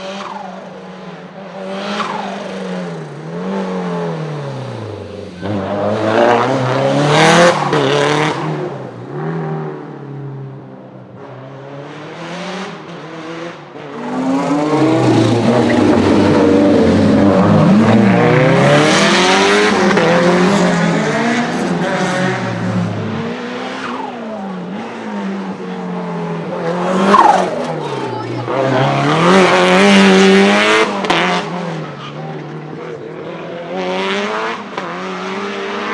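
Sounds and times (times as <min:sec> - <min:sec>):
car engine revving: 0:00.0 - 0:09.9, 0:11.5 - 0:35.9.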